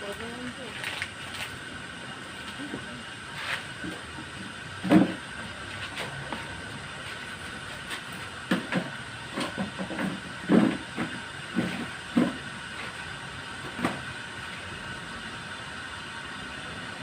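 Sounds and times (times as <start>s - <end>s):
water heater hissing: 0.0s - 17.0s.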